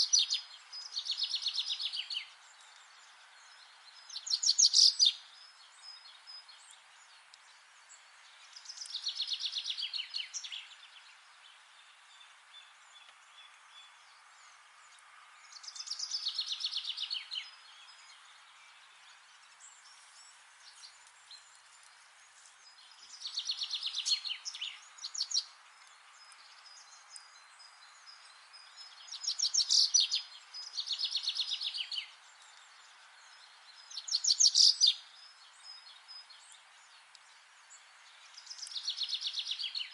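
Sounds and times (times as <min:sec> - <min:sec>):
faint forest background hiss: 0:00.0 - 0:39.9
songbird singing: 0:00.0 - 0:39.9.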